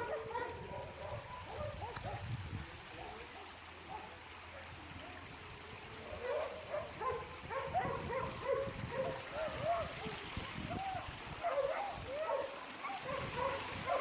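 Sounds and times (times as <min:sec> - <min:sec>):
floodwater running: 0:00.0 - 0:14.0.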